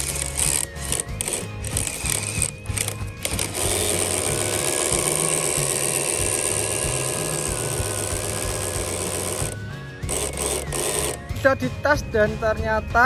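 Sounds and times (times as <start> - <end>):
thin wavering motor whine: 0.0 - 11.2
toy car motor rattling clatter: 0.0 - 11.3.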